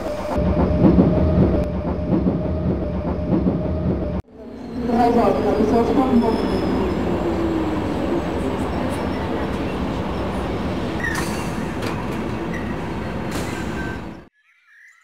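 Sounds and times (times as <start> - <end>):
train rumbling on rails: 0.0 - 14.3.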